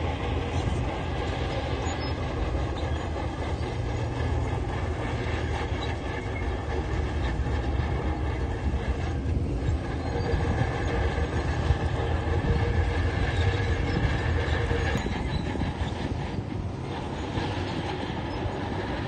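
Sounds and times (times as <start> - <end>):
construction machine diesel engine: 0.0 - 19.0.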